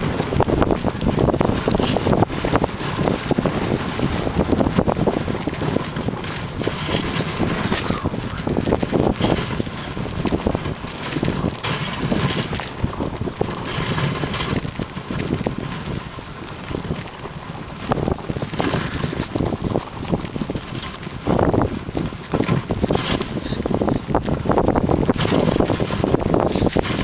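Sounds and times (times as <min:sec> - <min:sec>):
sled rushing over snow: 0:00.0 - 0:27.0
small knocks and rattles: 0:00.0 - 0:27.0
wind on microphone: 0:00.0 - 0:27.0.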